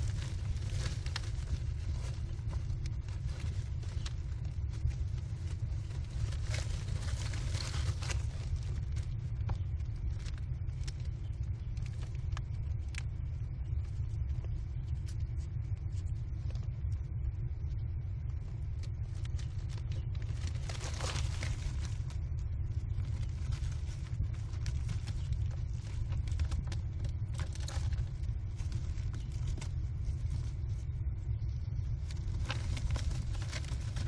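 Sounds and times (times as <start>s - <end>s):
nestlings scratching on wood chips: 0.0s - 13.0s, 18.8s - 34.0s
steady low rumble: 0.0s - 34.0s.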